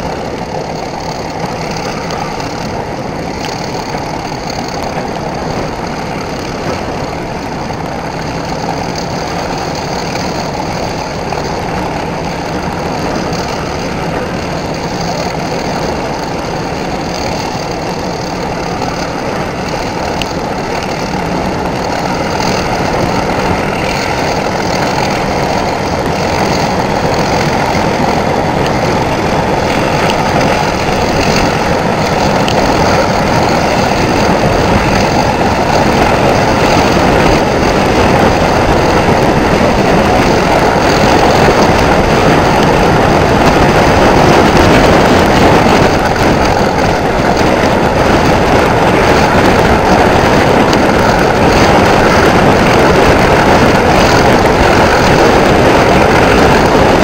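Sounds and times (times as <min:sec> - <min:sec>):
diesel locomotive engine: 0:00.0 - 0:57.0
wheels on rails: 0:00.0 - 0:57.0
wind: 0:00.0 - 0:57.0.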